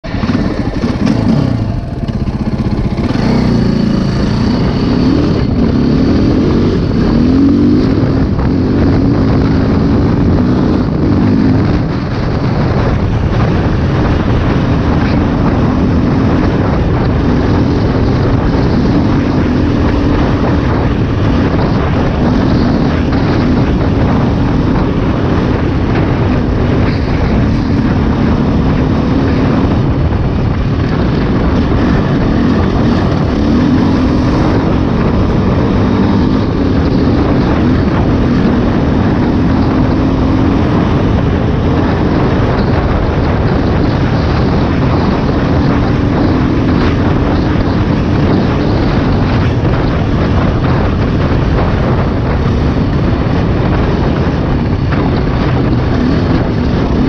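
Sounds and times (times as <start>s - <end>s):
dirt bike engine revving: 0.0s - 57.0s
wind on microphone: 0.0s - 57.0s.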